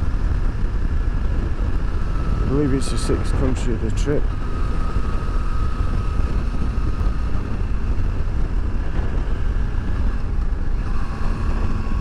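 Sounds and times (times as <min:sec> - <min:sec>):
faint steady whine: 0:00.0 - 0:12.0
motorcycle engine and road noise: 0:00.0 - 0:12.0
wind noise on microphone: 0:00.0 - 0:12.0.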